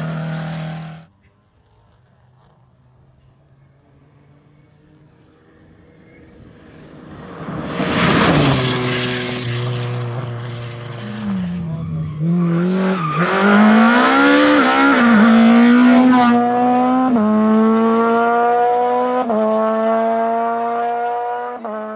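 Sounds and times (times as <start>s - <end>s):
tyre and road noise: 0.0s - 21.9s
rally car engine accelerating: 4.2s - 21.9s.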